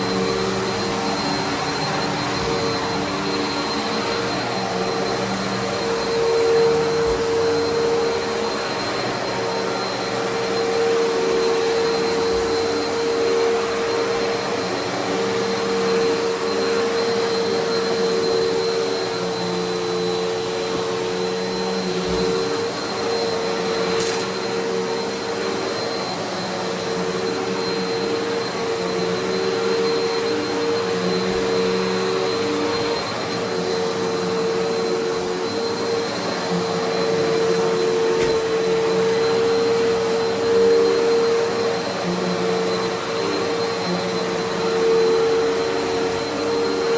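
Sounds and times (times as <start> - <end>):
vacuum cleaner on carpet: 0.0 - 46.9.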